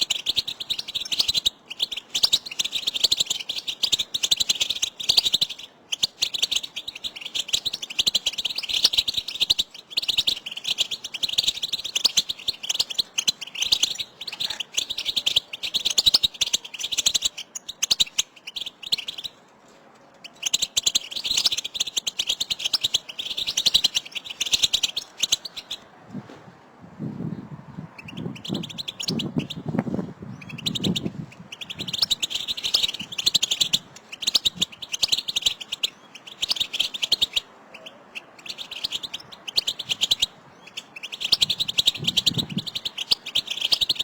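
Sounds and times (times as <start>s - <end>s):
goldfinches twittering: 0.0s - 19.4s, 20.2s - 25.9s, 27.1s - 44.0s.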